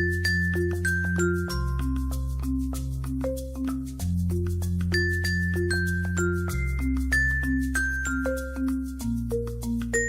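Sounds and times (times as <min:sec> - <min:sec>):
bell-like melody with beat: 0:00.0 - 0:10.0.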